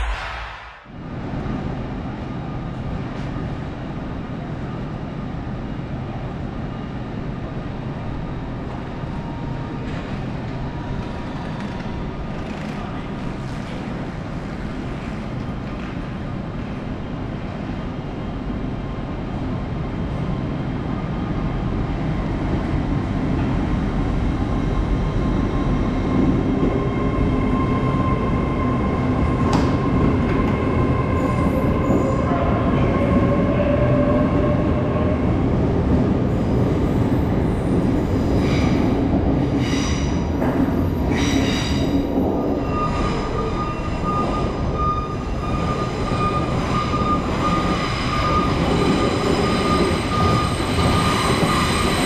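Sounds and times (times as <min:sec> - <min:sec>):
train rumbling: 0:00.0 - 0:52.0.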